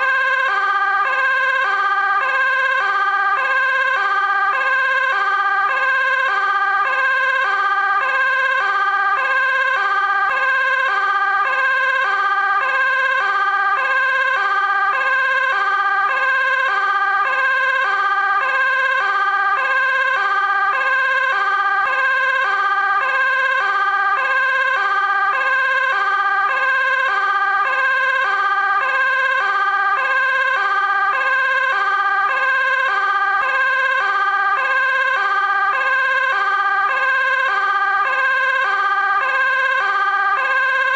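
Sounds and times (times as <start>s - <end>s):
fire engine two-tone siren: 0.0s - 40.9s.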